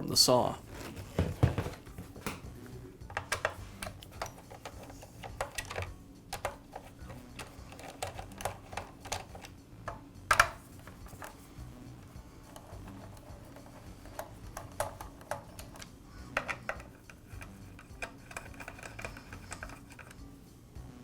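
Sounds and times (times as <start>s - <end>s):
hand tools clicking and tapping: 0.7s - 11.4s, 12.0s - 20.3s.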